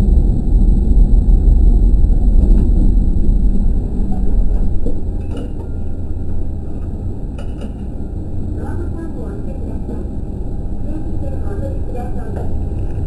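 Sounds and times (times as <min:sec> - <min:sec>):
diesel railcar rumbling: 0:00.0 - 0:13.0.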